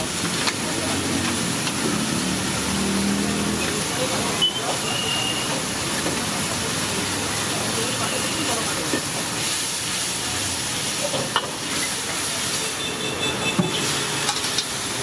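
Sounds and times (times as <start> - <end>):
sauce sizzling in a wok: 0.0 - 15.0.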